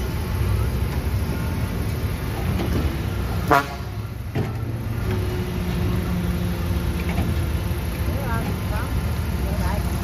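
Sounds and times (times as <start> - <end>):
diesel engines running: 0.0 - 10.0.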